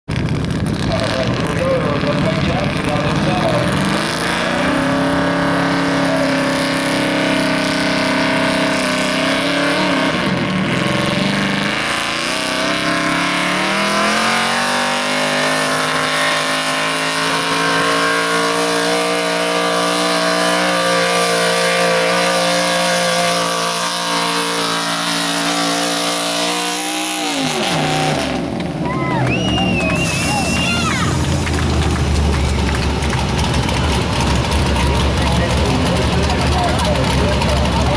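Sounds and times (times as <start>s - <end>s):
truck engine at full throttle: 0.0s - 37.9s.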